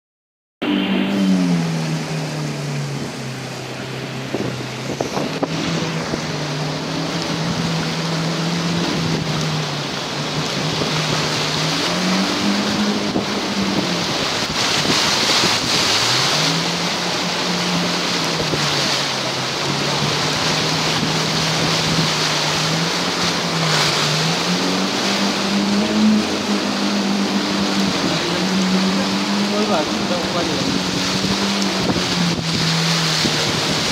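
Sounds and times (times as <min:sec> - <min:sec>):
car engine revving: 0:00.6 - 0:33.9
rain: 0:00.7 - 0:33.9
water spraying from tyres: 0:04.0 - 0:33.9.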